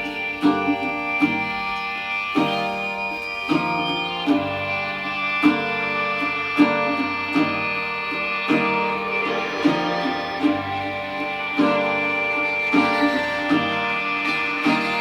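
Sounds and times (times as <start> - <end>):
plucked string notes: 0.0 - 15.0
sustained ringing tones: 0.0 - 15.0.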